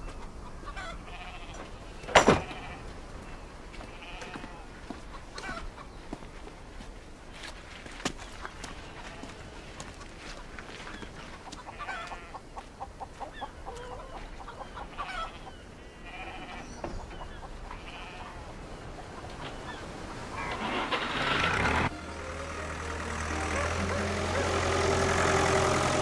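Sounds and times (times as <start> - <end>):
poultry calling: 0.4 - 6.0, 8.4 - 26.0.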